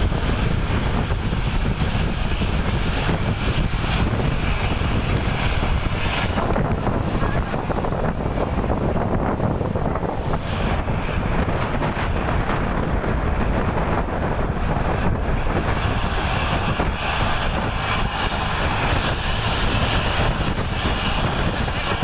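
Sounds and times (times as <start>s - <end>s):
highway traffic rumble: 0.0s - 22.0s
wind buffeting microphone: 0.0s - 22.0s.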